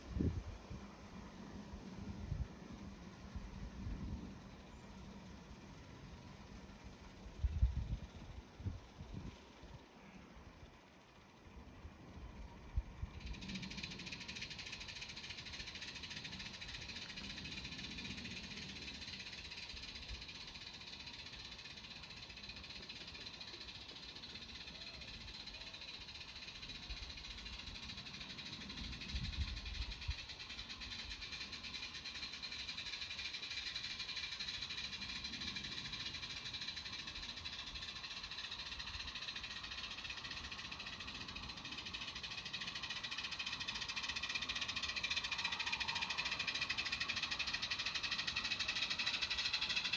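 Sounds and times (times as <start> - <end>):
model train running: 0.0 - 49.9.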